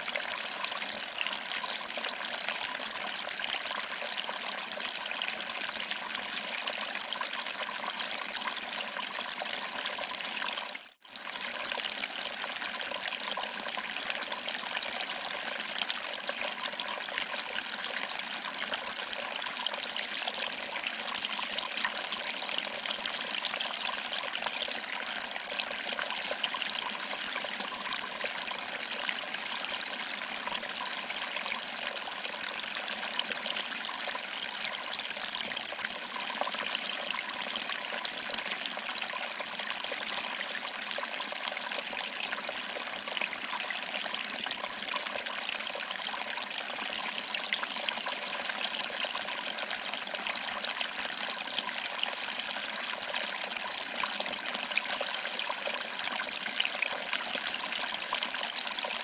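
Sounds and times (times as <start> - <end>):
water trickling over rocks: 0.0 - 59.0.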